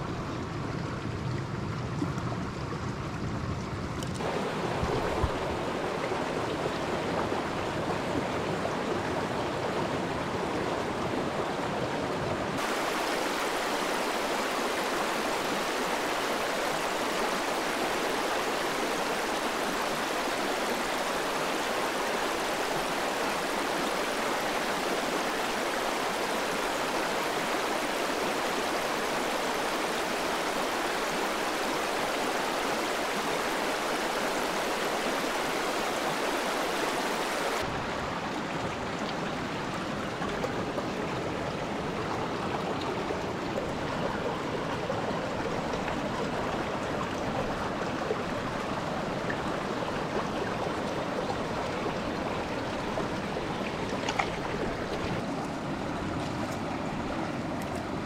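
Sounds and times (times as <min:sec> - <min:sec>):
stream rushing over rocks: 0:04.1 - 0:58.0.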